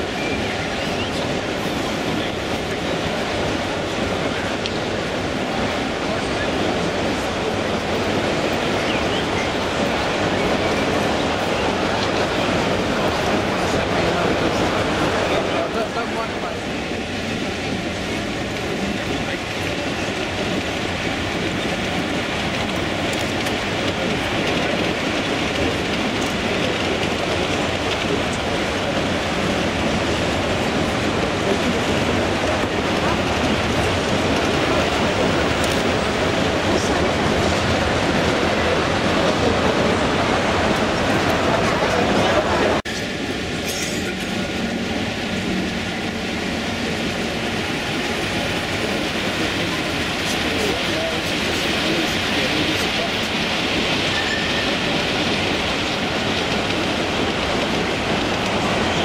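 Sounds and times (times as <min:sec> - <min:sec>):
model train wheels on track: 0:00.0 - 0:59.0.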